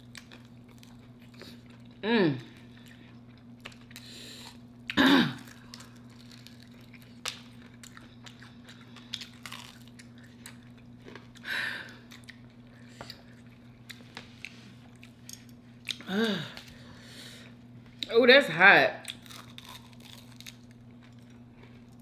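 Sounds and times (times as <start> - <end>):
chewing and crunching: 0.0 - 18.1, 19.0 - 22.0.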